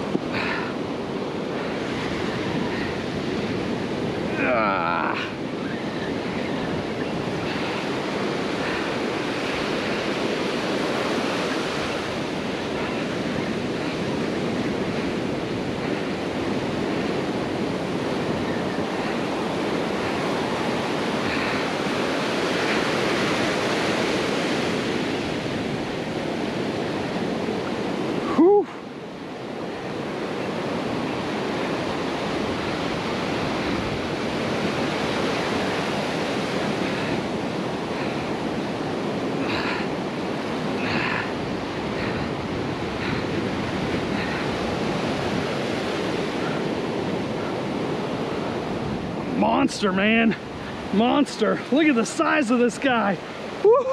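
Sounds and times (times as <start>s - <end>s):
wind buffeting microphone: 0.0s - 52.6s
ocean surf breaking: 0.0s - 53.9s.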